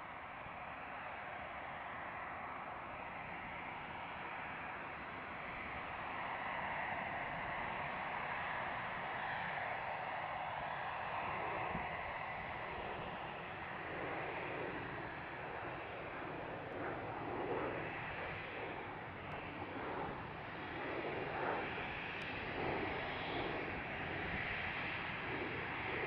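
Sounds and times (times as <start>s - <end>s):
jet engines at taxi thrust: 0.0s - 26.0s.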